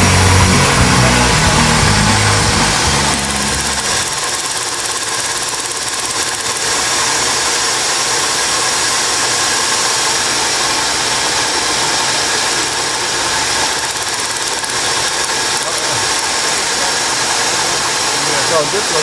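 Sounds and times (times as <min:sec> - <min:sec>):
high whining tones: 0:00.0 - 0:19.0
machine hiss: 0:00.0 - 0:19.0.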